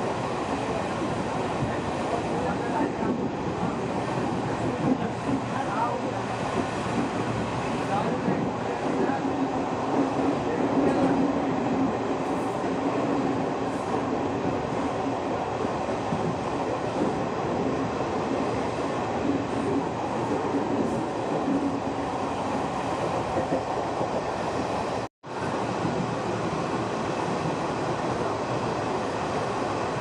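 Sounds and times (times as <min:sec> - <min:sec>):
train wheels on rails: 0:00.0 - 0:30.0.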